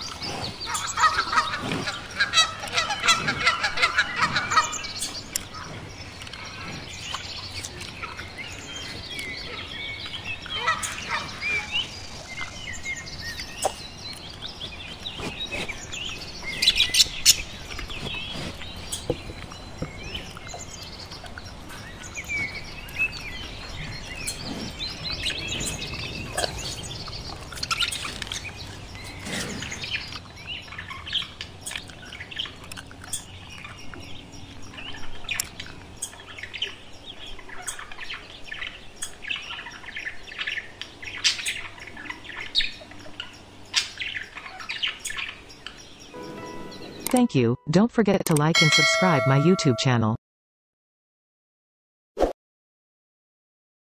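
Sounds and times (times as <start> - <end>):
budgerigars chirping: 0.0 - 47.1.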